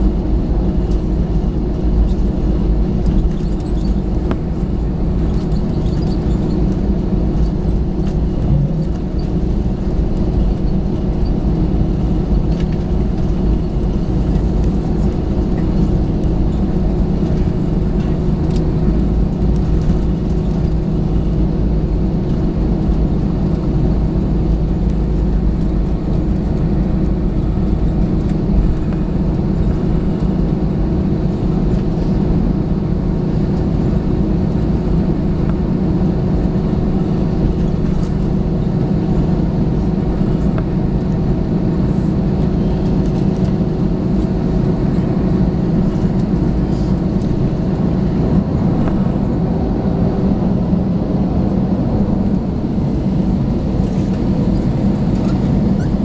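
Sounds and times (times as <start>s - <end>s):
aircraft engines droning: 0.0s - 56.0s
low rumble: 0.0s - 56.0s
steady low hum: 0.0s - 56.0s.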